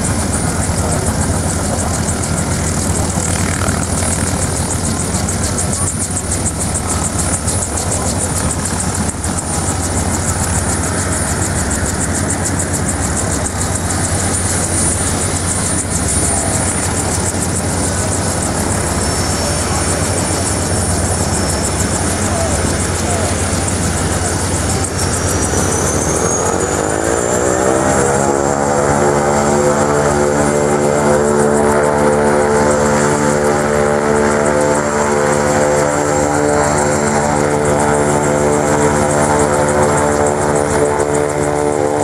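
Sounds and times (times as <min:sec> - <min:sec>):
faint high whine: 0:00.0 - 0:42.0
helicopter turbine and rotor: 0:00.0 - 0:42.0.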